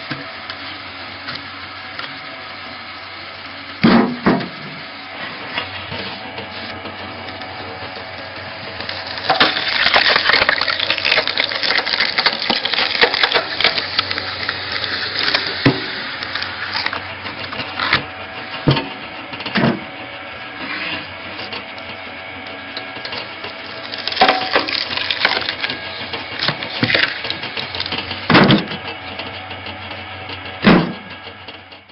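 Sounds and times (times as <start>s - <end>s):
log splitter humming: 0.0s - 31.9s
wood crackling and splitting: 5.5s - 31.9s.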